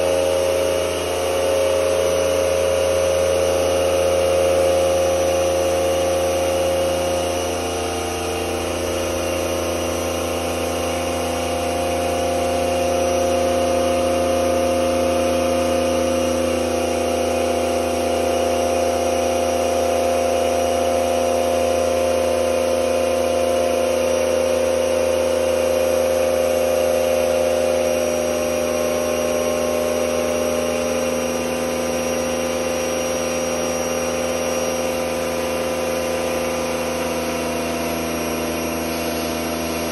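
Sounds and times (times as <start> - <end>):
pump humming steadily: 0.0 - 39.9.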